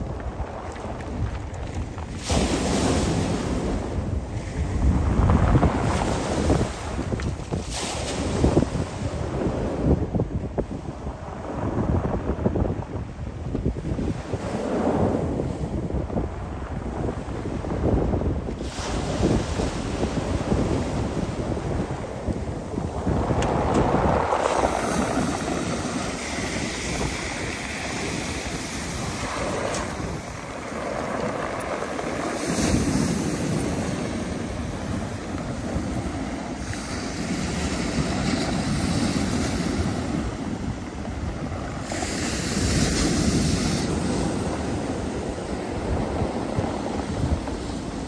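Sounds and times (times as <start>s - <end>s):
waves washing over shingle: 0.0s - 10.2s, 13.6s - 48.0s
wind buffeting microphone: 0.0s - 48.0s.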